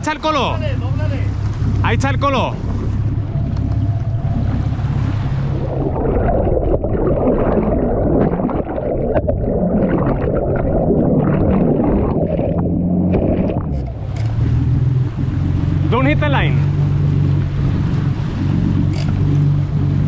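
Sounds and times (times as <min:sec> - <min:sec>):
boat engine running: 0:00.0 - 0:20.0
water churning at hull: 0:00.0 - 0:20.0.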